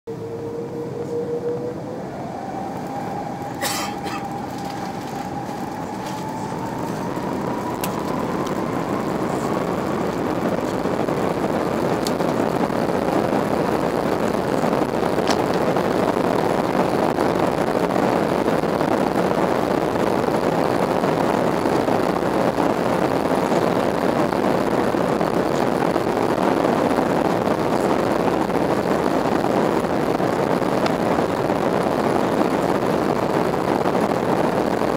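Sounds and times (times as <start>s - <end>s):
jet engine roar: 0.1s - 34.9s
jet engine whine: 0.1s - 34.9s
runway rumble: 0.1s - 34.9s.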